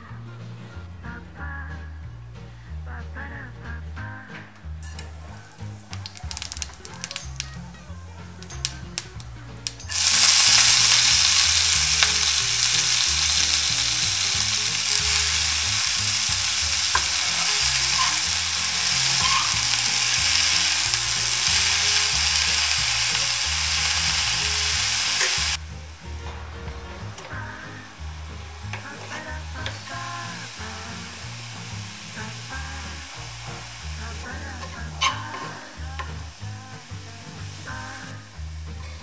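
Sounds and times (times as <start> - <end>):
spinach sizzling in hot oil: 4.8 - 26.2, 27.3 - 39.0.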